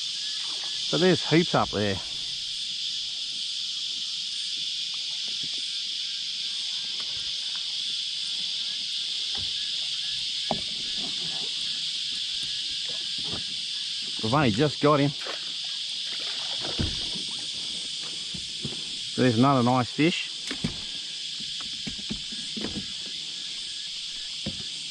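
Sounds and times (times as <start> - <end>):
cicadas droning: 0.0 - 24.9.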